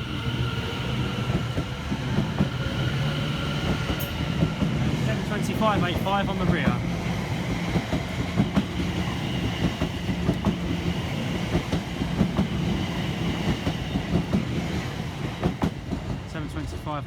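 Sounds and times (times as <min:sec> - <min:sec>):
electric train hum: 0:00.0 - 0:17.0.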